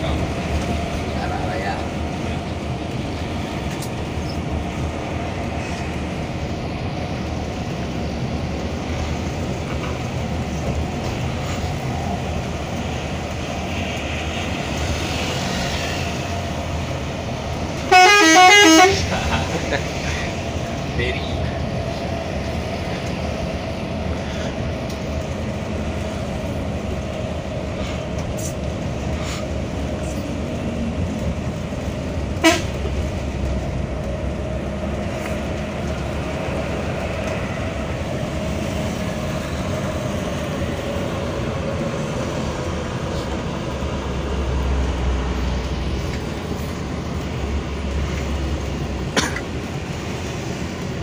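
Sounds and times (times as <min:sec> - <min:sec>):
coach engine and road noise: 0:00.0 - 0:51.0.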